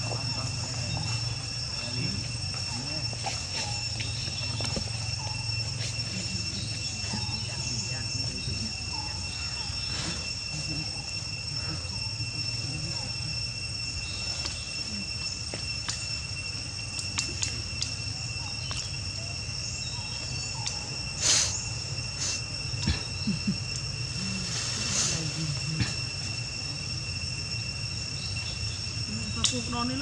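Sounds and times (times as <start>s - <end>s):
insects high-pitched drone: 0.0s - 30.0s.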